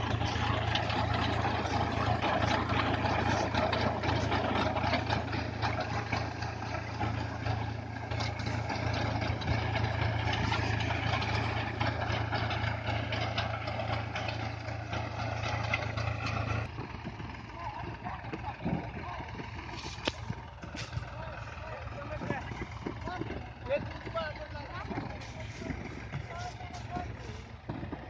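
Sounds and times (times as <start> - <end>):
harvesting machinery rattling: 0.0 - 28.0
tractor engine humming: 0.0 - 28.0.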